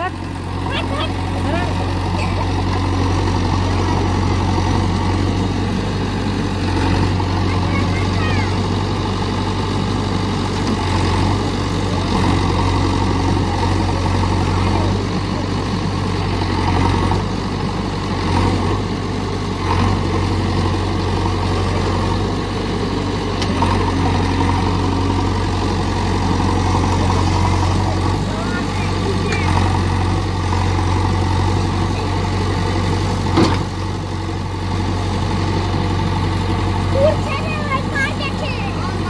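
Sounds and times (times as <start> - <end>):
backhoe loader diesel engine running: 0.0 - 39.0.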